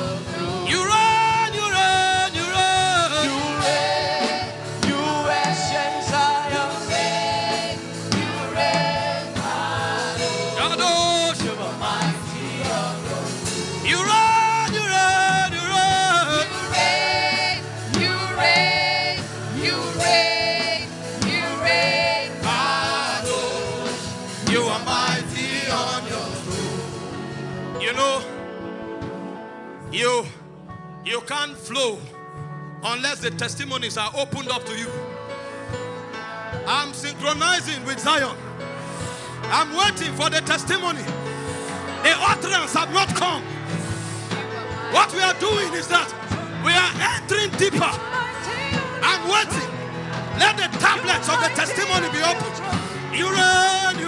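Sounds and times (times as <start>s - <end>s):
gospel singing: 0.0s - 28.9s, 36.0s - 54.0s
instrumental backing: 0.0s - 54.0s.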